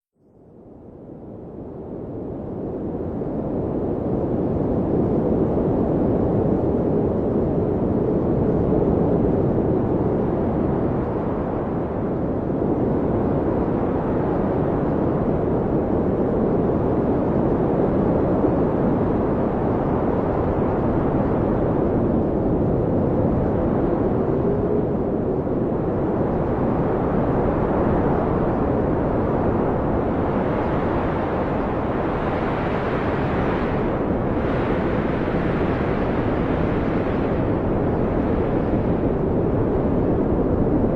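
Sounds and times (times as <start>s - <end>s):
blizzard wind howling: 0.4s - 40.9s.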